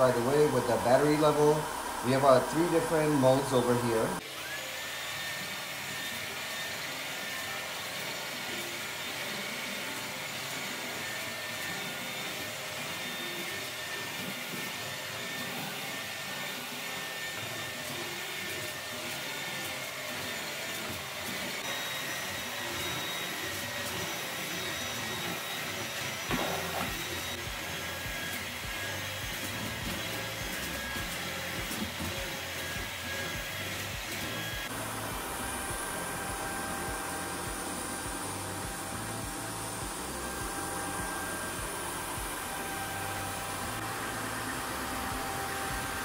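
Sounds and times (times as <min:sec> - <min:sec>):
high motor whine: 0:00.0 - 0:17.8, 0:20.4 - 0:46.0
vacuum mop running: 0:00.0 - 0:46.0.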